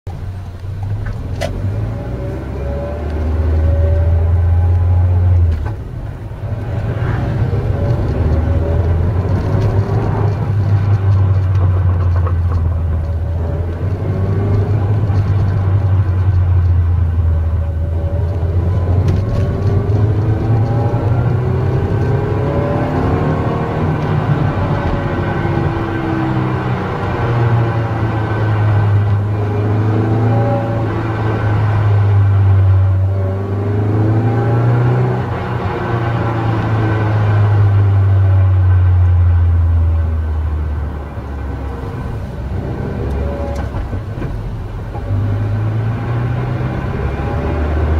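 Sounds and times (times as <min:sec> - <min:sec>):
car engine droning: 0:00.1 - 0:47.9.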